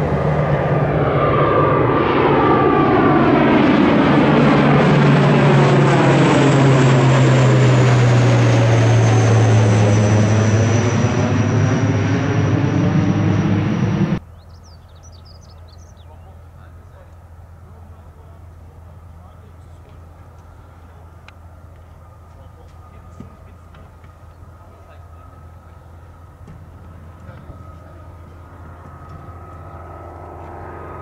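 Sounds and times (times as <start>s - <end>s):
high engine whine: 0.0s - 31.0s
propeller airplane drone: 0.0s - 31.0s.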